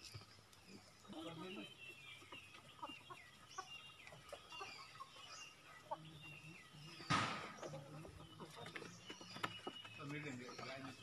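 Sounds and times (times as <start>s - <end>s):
chickens clucking: 0.0s - 11.0s
small bird chirps: 0.0s - 11.0s.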